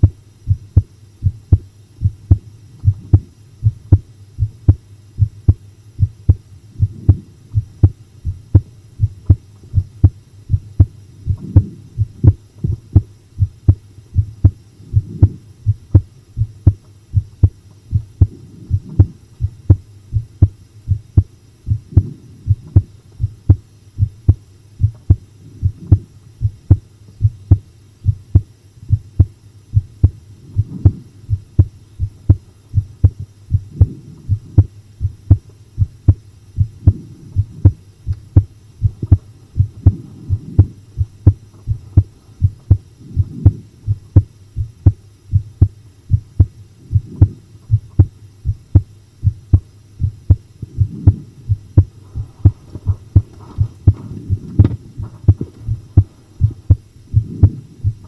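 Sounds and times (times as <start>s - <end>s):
heartbeat thuds: 0.0s - 58.0s.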